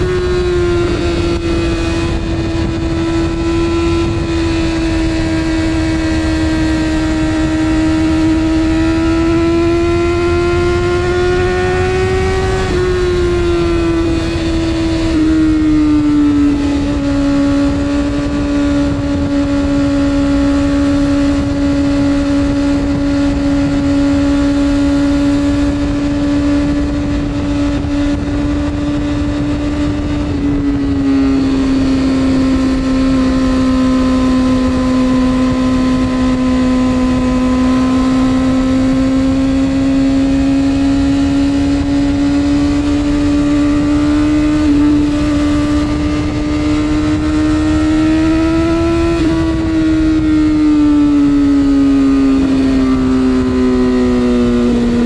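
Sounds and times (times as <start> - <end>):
motorcycle engine at high revs: 0.0 - 55.0
wind noise: 0.0 - 55.0.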